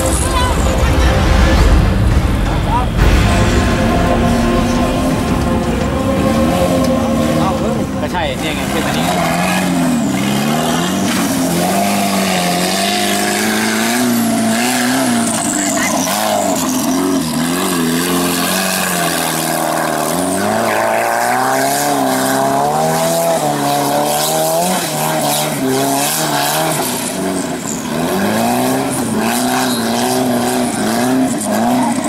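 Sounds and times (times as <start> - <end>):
buggy engine revving in mud: 6.0 - 32.0.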